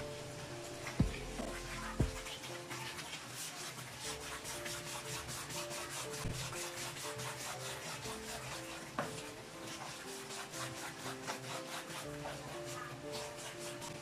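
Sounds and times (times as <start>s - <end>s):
soft background music: 0.0s - 14.0s
wooden spatula scraping pan: 0.8s - 14.0s.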